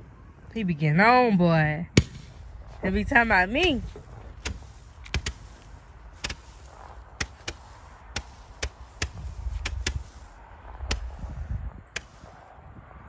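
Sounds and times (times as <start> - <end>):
wind rumble on microphone: 0.0 - 13.0
fireworks cracking: 1.9 - 12.4.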